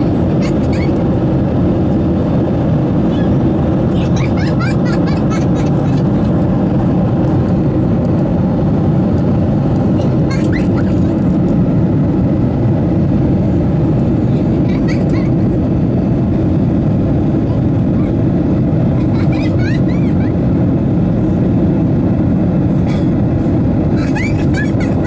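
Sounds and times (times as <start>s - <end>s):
airflow noise: 0.0s - 25.0s
airplane cabin engine rumble: 0.0s - 25.0s.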